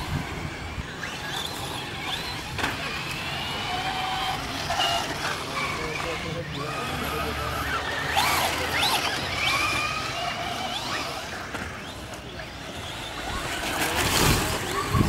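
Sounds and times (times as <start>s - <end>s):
rc car motors whining: 0.0s - 15.0s.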